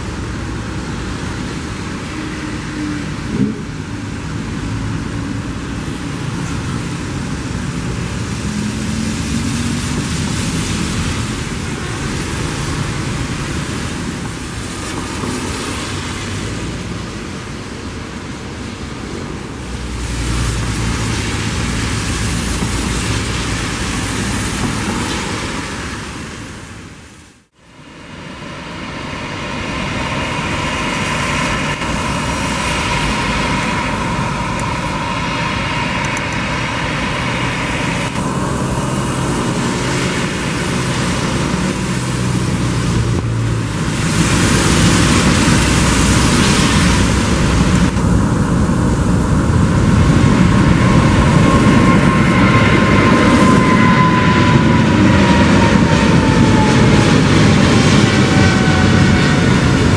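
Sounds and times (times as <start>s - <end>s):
heavy rain hiss: 0.0s - 52.1s
jet engines at takeoff: 0.0s - 59.9s.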